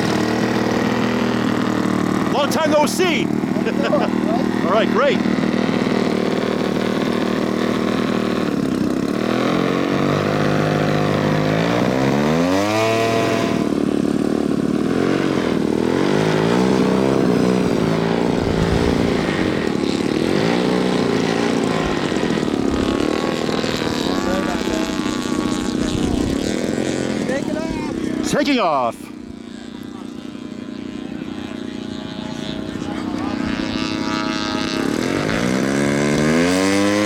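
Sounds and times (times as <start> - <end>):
model airplane engine revving: 0.0 - 37.0.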